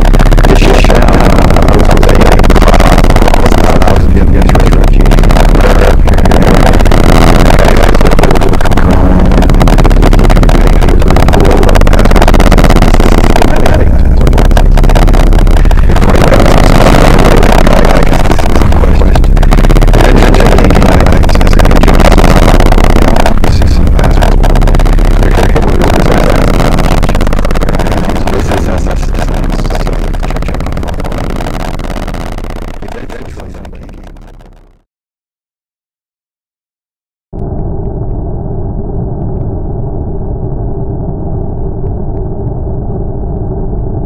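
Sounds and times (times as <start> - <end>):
heavy low rumble: 0.0 - 34.6, 37.4 - 44.0
distorted wall of noise: 0.0 - 34.8, 37.4 - 44.0.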